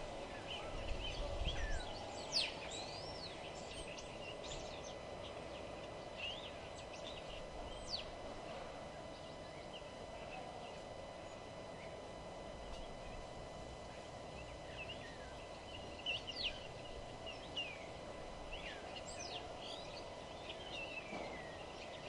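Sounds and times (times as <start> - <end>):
birds singing and calling: 0.0 - 22.0
low background hum: 0.0 - 22.0.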